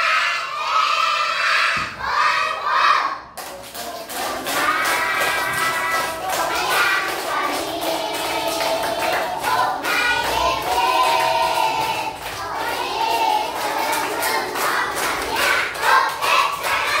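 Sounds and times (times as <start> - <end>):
children chanting in unison: 0.0 - 3.4, 4.0 - 17.0
chorus of children's voices: 0.0 - 17.0
short sharp claps: 3.4 - 17.0.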